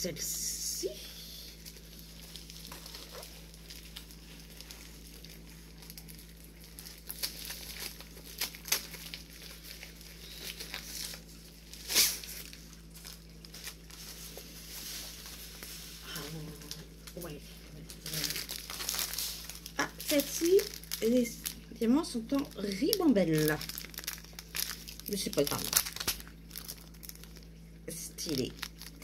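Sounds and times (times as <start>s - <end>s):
plastic wrapping crinkling and tearing: 1.4s - 29.0s.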